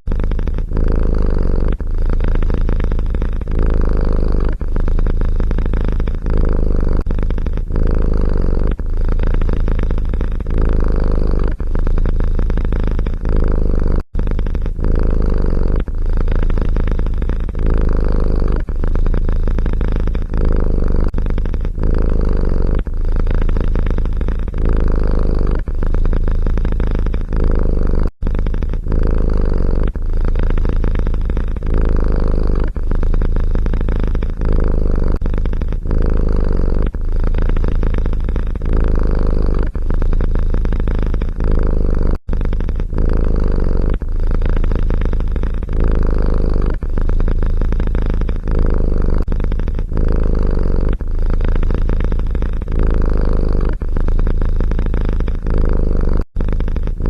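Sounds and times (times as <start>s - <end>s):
cat purring loudly: 0.0s - 57.0s.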